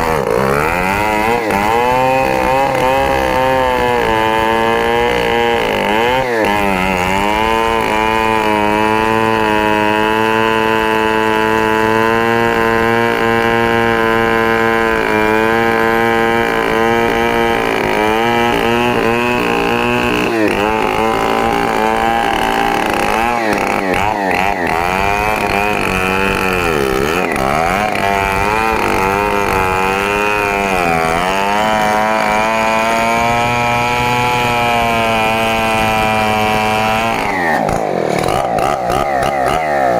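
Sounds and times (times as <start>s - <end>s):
chainsaw cutting at high speed: 0.0s - 39.9s.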